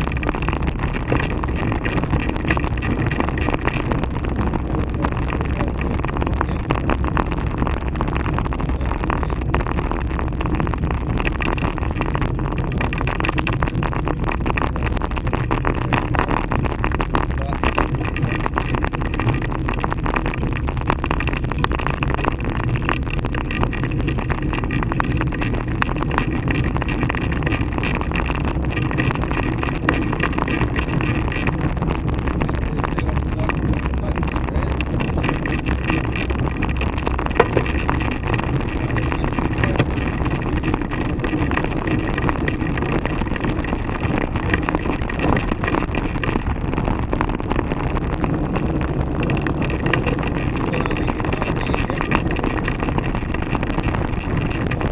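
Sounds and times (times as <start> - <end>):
fine rattles: 0.0 - 54.9
tyre and road rumble: 0.0 - 54.9
wind on microphone: 0.0 - 54.9.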